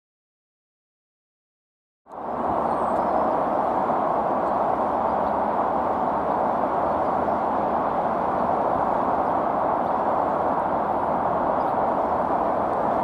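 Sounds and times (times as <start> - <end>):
jet engines roaring: 2.1 - 13.0.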